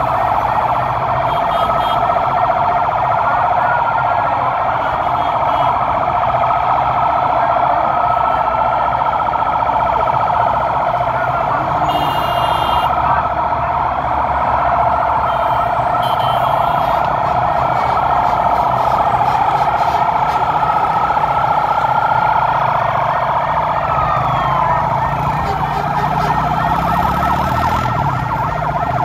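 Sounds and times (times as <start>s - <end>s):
many sirens wailing: 0.0s - 29.0s.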